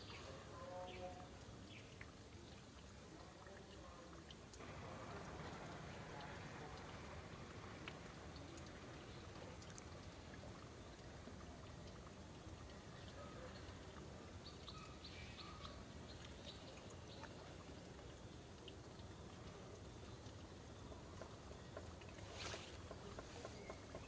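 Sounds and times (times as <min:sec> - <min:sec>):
faint outdoor background hiss: 0:00.0 - 0:24.0.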